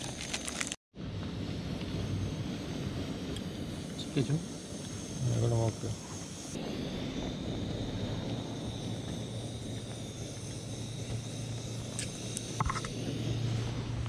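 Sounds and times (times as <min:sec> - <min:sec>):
steady low rumble: 0:01.0 - 0:14.0.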